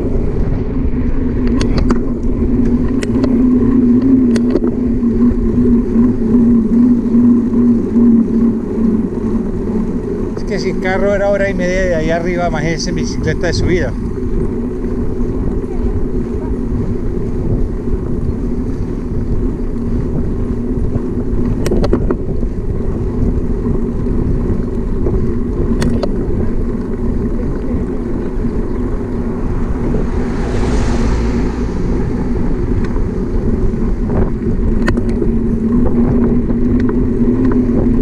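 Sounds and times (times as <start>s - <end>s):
bicycle tyre noise on road: 0.0s - 38.0s
wind rumble on microphone: 0.0s - 38.0s.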